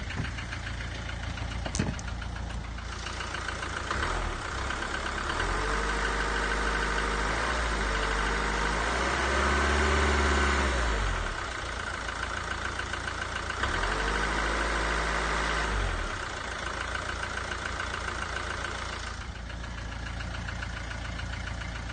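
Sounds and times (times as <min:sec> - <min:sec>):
diesel engine revving and idling: 0:00.0 - 0:21.9
noise from top of engine: 0:00.0 - 0:21.9.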